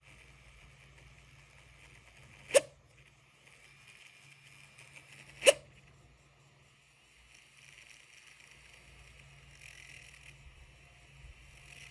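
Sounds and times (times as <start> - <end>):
laptop fan whine: 0.0 - 11.9.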